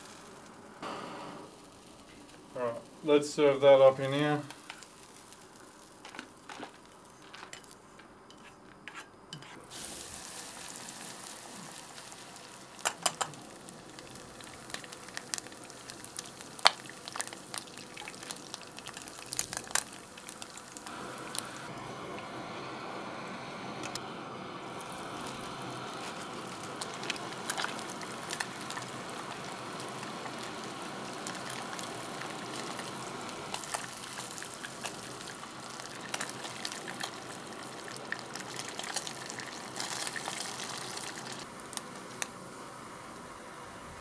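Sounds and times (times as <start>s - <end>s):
fish frying in hot oil: 0.0s - 7.8s, 9.7s - 43.2s
oil crackling and popping: 0.0s - 8.1s, 9.6s - 22.4s, 23.7s - 42.5s.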